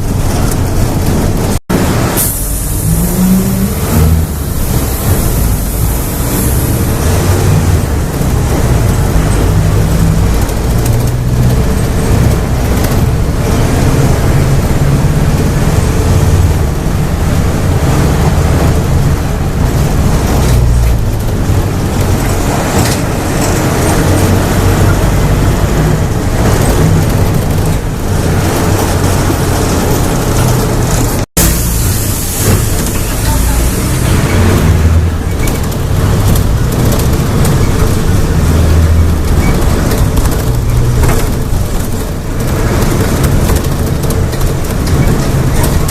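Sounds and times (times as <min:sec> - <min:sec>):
bus diesel engine revving: 0:00.0 - 0:45.9.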